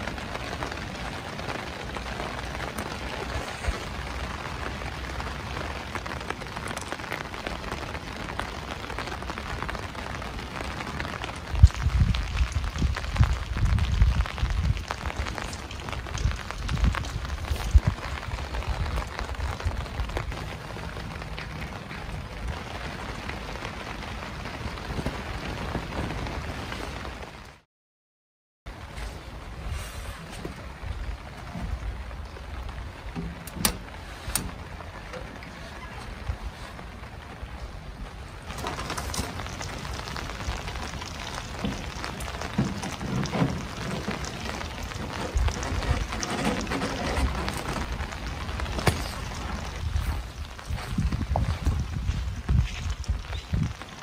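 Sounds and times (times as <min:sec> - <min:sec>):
rain pattering on tent fabric: 0:00.0 - 0:27.7, 0:28.7 - 0:54.0.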